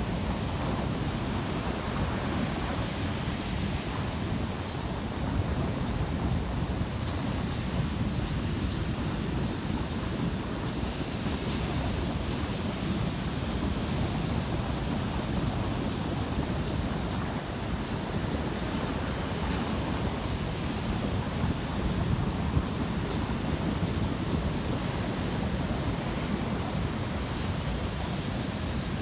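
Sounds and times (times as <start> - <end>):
heavy surf breaking on beach: 0.0 - 29.0
wind on microphone: 0.0 - 29.0.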